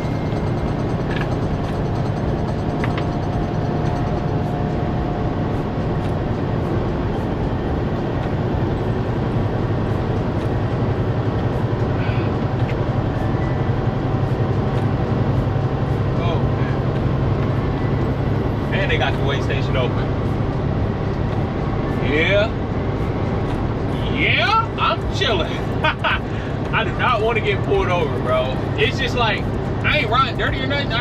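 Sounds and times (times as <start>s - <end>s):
road and tyre noise: 0.0s - 31.0s
truck engine drone: 0.0s - 31.0s.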